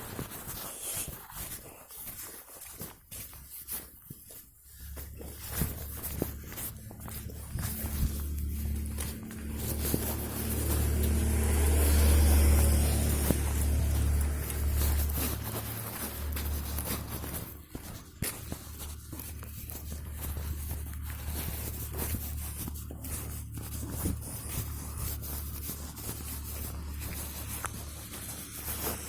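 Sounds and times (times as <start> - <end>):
low rumble: 5.0 - 29.0.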